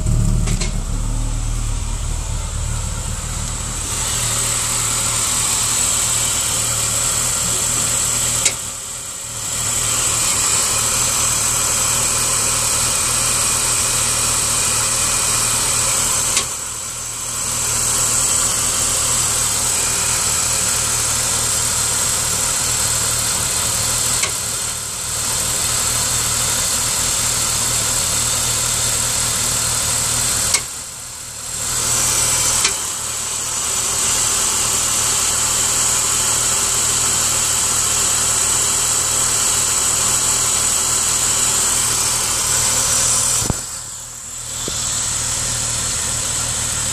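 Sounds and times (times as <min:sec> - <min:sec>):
car engine idling: 0:00.0 - 0:46.9
engine knocking: 0:00.0 - 0:46.9.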